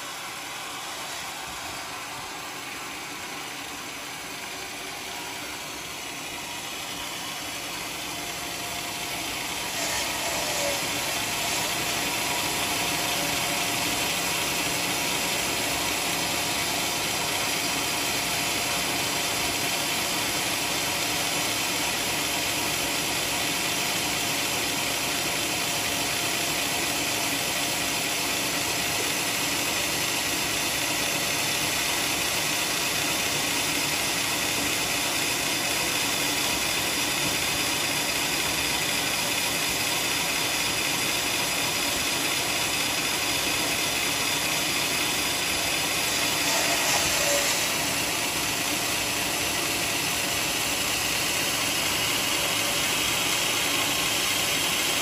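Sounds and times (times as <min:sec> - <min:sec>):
band sawmill sawing timber: 0:00.0 - 0:55.0.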